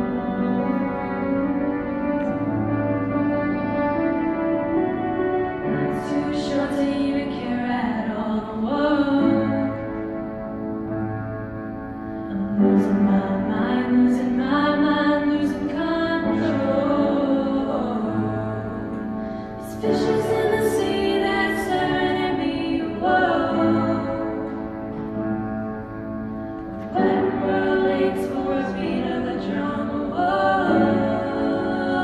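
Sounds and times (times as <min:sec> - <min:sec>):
group of singers holding long notes: 0:00.0 - 0:10.1, 0:12.3 - 0:25.4, 0:26.5 - 0:32.0.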